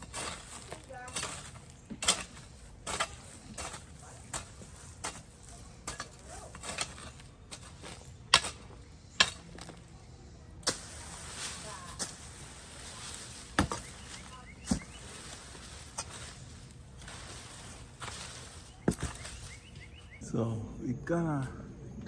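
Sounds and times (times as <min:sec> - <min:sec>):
garden tool scraping in dirt: 0:00.0 - 0:20.2.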